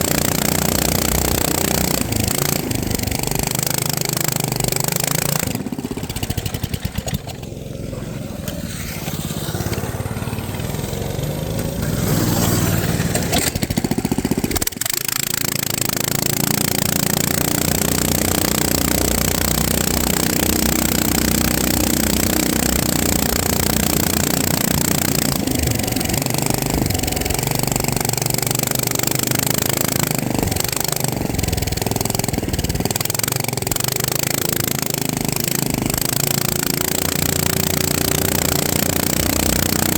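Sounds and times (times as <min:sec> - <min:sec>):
quadcopter propellers buzzing: 0:00.0 - 0:39.9.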